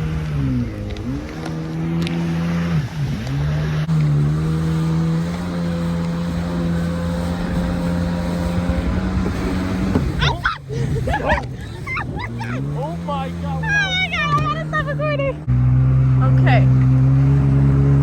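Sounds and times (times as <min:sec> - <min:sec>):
jet ski engine running: 0:00.0 - 0:18.0.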